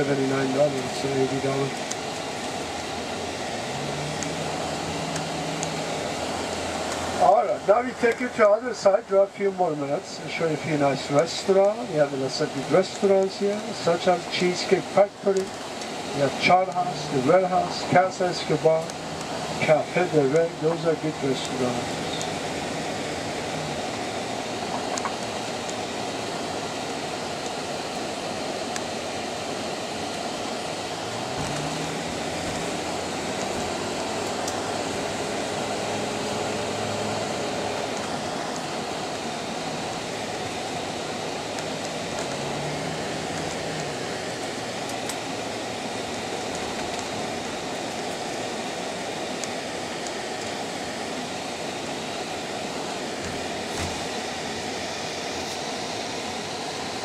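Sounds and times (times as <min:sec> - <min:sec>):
low hum rising and falling: 0:00.0 - 0:07.9, 0:15.7 - 0:57.0
road and engine noise inside car: 0:00.0 - 0:57.0.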